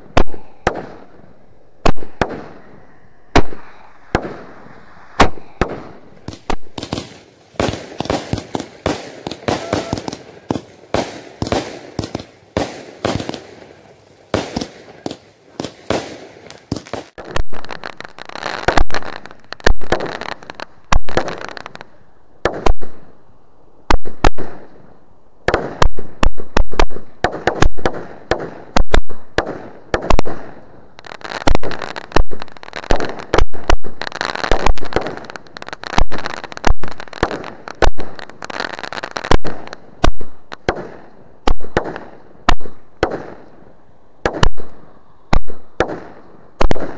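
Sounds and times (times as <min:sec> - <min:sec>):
fireworks banging and crackling: 0:00.0 - 0:23.1, 0:23.9 - 0:46.9.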